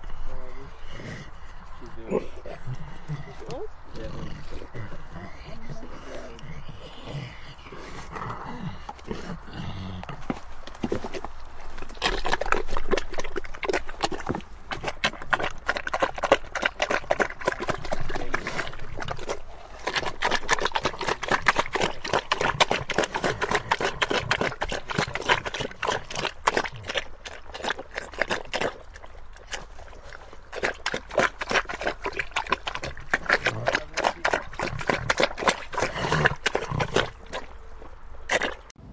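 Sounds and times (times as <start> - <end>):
pigs chewing and smacking: 0.0 - 38.9.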